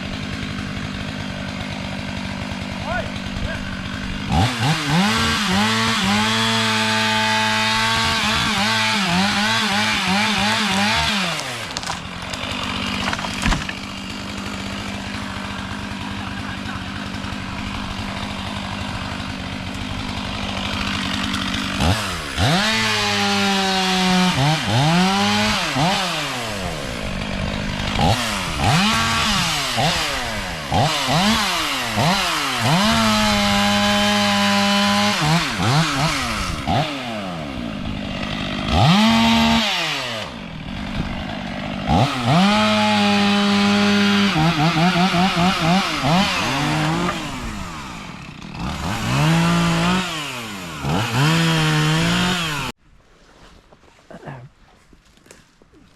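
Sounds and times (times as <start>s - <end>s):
chainsaw idling and revving: 0.0s - 52.8s.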